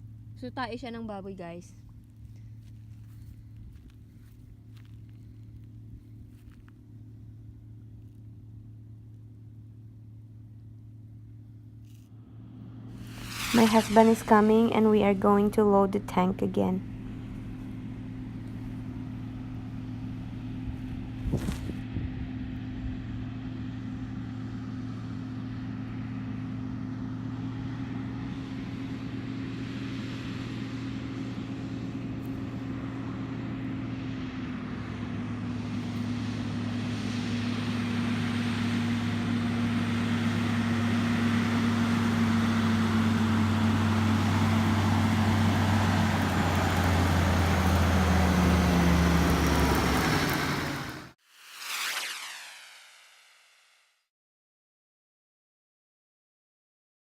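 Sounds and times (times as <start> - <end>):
tractor diesel engine running: 0.0 - 51.2.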